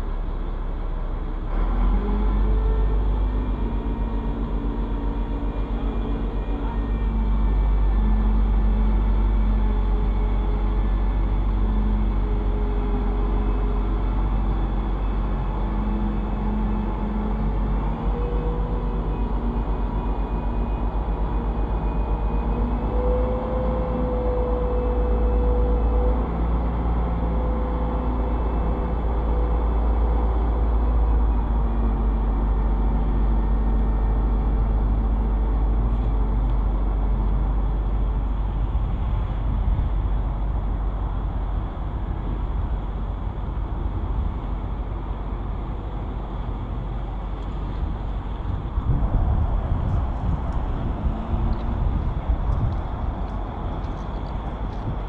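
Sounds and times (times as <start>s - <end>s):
crane engine rumbling: 0.0s - 55.0s.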